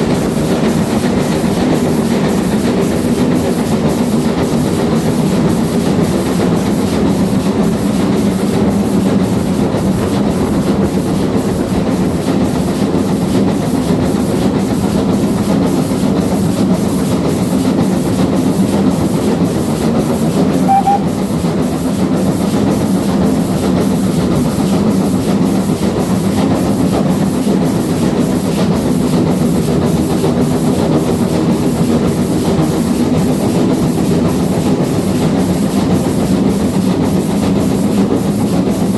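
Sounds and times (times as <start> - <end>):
steam train running: 0.0 - 38.9.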